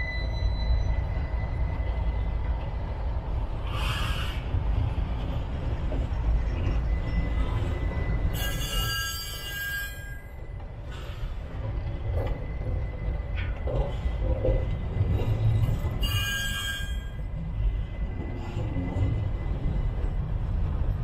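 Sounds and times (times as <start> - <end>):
train wheel squeal: 0.0 - 2.9, 3.5 - 5.1, 5.8 - 20.2
freight train rumble: 0.0 - 21.0.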